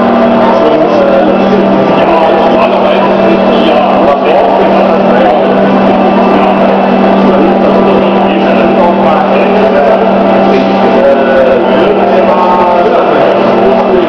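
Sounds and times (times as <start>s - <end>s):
electric lifting jacks humming: 0.0s - 14.0s.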